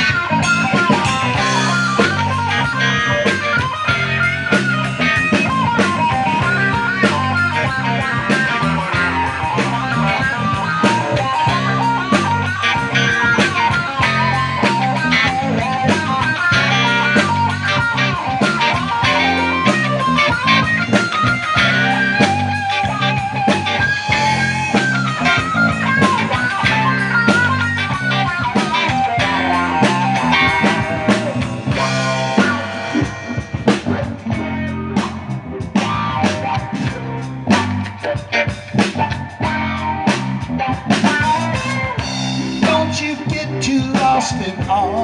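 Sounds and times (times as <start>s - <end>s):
bass guitar: 0.0s - 45.0s
drum kit: 0.0s - 45.0s
electric guitar lead line: 0.0s - 45.0s.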